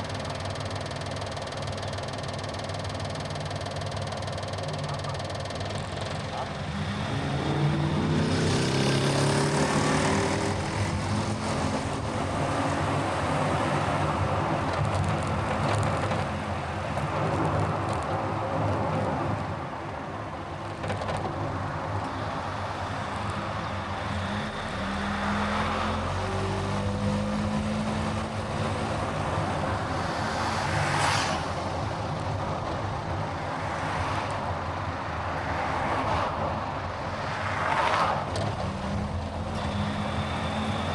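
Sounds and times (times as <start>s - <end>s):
car engine and tyre noise: 0.0s - 40.9s
passing traffic: 0.0s - 40.9s.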